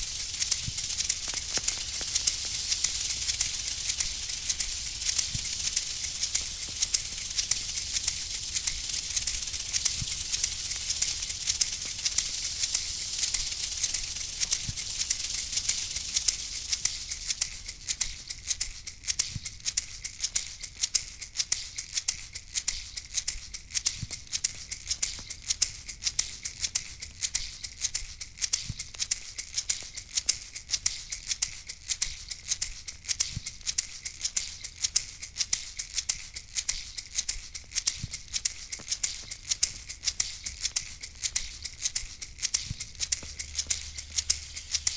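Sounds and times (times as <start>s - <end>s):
hand rattle shaken: 0.0s - 44.9s
hiss: 0.0s - 44.9s.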